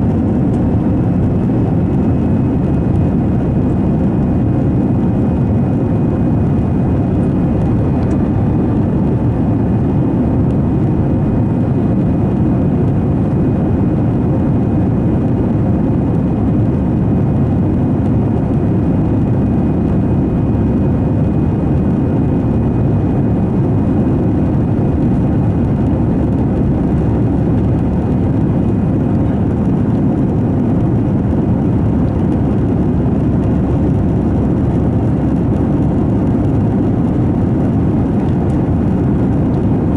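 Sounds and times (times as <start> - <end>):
faint steady whine: 0.0 - 39.9
jet engines rumbling: 0.0 - 39.9.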